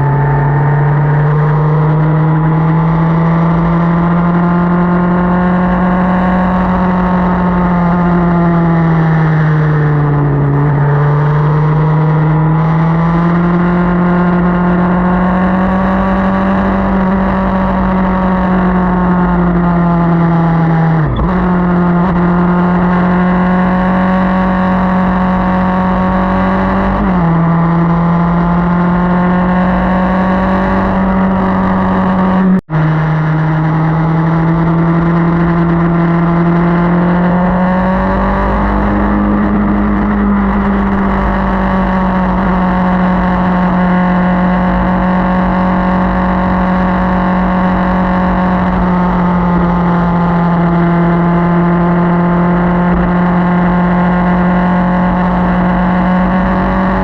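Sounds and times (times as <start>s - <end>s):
low wind rumble: 0.0s - 57.0s
motorcycle engine cruising: 0.0s - 57.0s.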